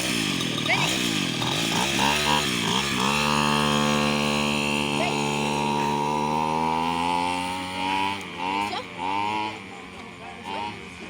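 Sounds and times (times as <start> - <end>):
small two-stroke engine revving: 0.0 - 11.0.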